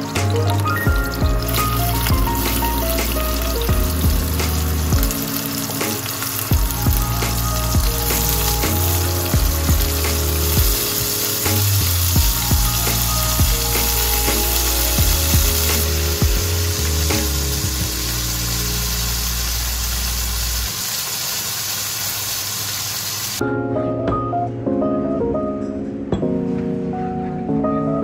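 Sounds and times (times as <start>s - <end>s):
background music: 0.0s - 20.7s, 23.4s - 28.0s
chicken frying in oil: 0.0s - 23.4s.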